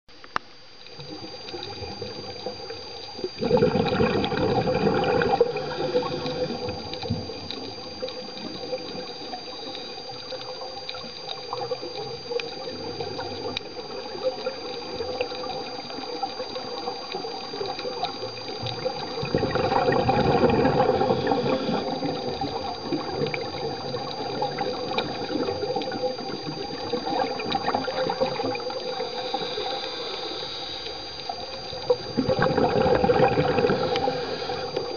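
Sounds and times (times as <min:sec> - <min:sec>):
thin high whine: 0:00.1 - 0:34.9
underwater bubbles gurgling: 0:00.1 - 0:34.9.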